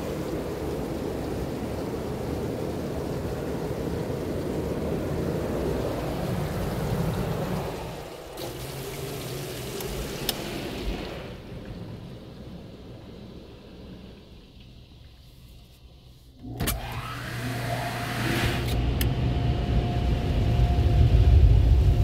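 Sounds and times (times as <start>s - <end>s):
car wash machinery running: 0.0s - 22.0s.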